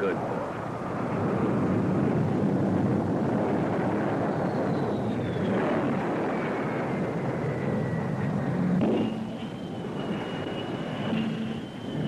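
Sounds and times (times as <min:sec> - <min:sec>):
jet engine roar with high whine: 0:00.0 - 0:12.0.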